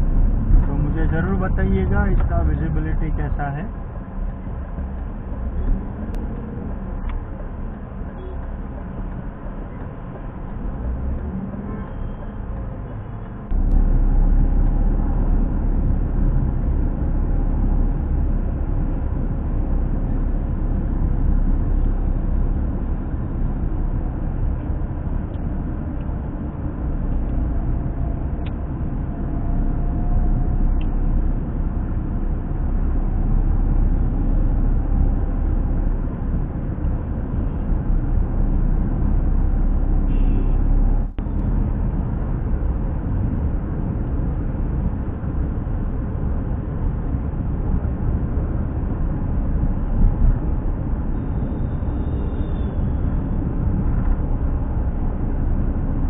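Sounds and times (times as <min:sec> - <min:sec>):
wind noise: 0:00.0 - 0:02.6, 0:13.4 - 0:56.0
traffic rumble: 0:00.0 - 0:56.0.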